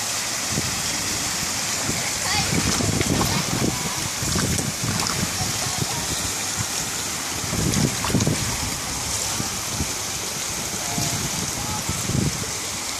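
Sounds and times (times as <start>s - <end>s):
water splashing over waterfall: 0.0s - 12.9s.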